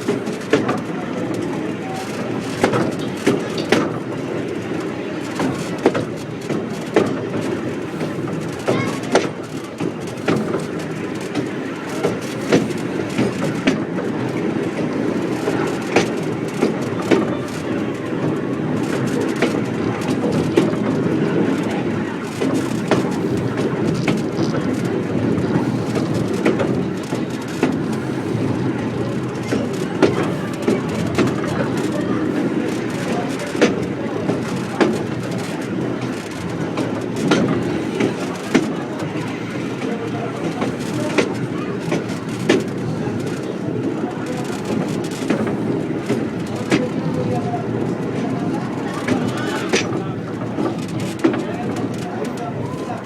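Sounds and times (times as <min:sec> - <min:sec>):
train rumble: 0:00.0 - 0:53.0
wheels clacking over rail joints: 0:00.0 - 0:53.0.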